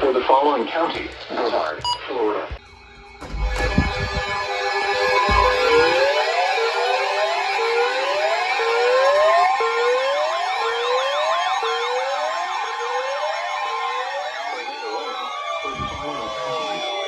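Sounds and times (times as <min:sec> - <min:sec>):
electronic sirens: 0:01.0 - 0:17.0
wavering siren yelp: 0:03.2 - 0:17.0.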